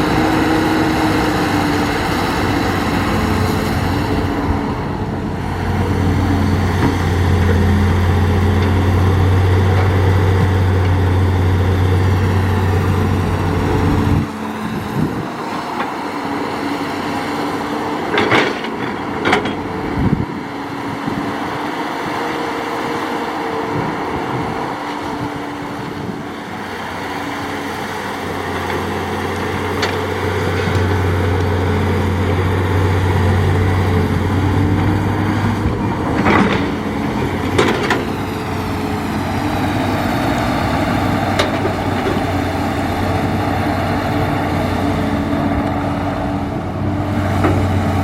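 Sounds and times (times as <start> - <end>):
excavator diesel engine droning: 0.0 - 48.0.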